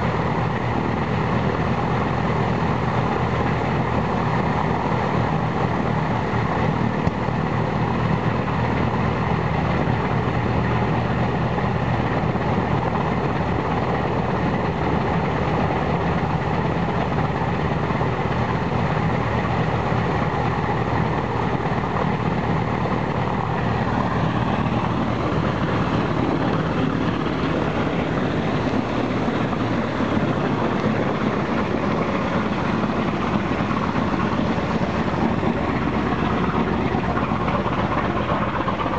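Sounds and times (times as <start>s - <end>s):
radial engine running: 0.0s - 38.9s.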